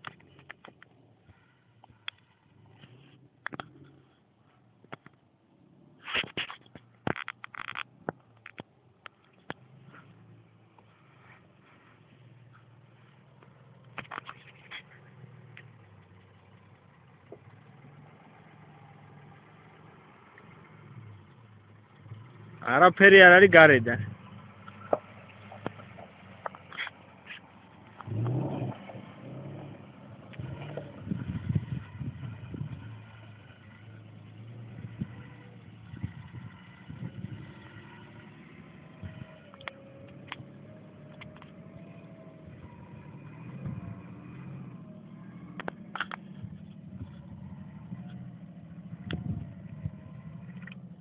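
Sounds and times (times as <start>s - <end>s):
faint engine idling: 0.0s - 51.0s.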